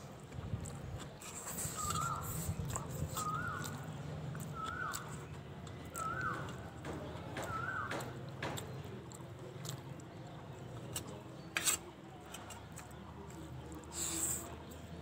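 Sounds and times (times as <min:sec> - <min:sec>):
chewing and wet mouth sounds: 0:00.0 - 0:15.0.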